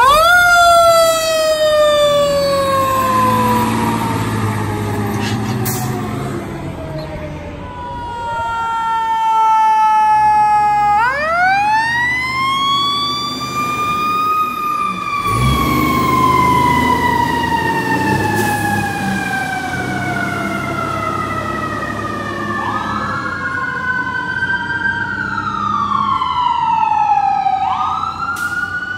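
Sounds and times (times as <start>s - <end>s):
heavy truck engine rumble: 0.0s - 8.8s, 10.0s - 26.4s
siren wailing: 0.0s - 28.9s.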